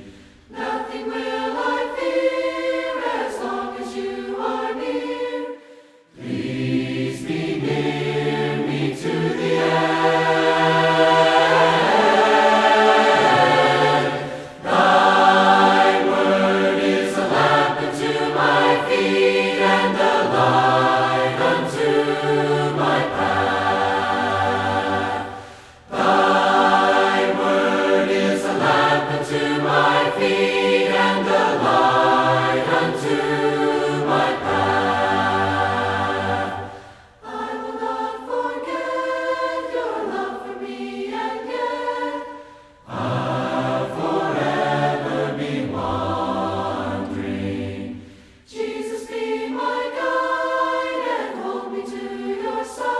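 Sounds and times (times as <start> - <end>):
group singing a hymn a cappella: 0.0 - 52.9.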